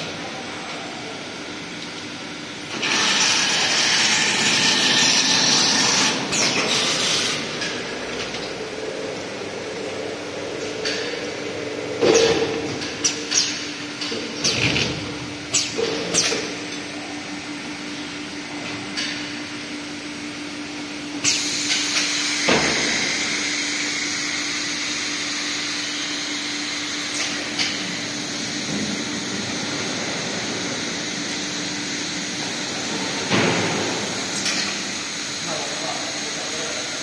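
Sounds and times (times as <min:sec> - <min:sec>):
machinery humming: 0:00.0 - 0:37.0.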